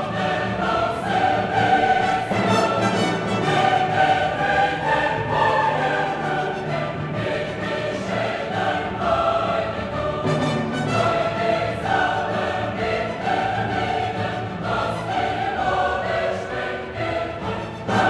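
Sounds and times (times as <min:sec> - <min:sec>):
choir singing sustained chords: 0:00.0 - 0:18.0.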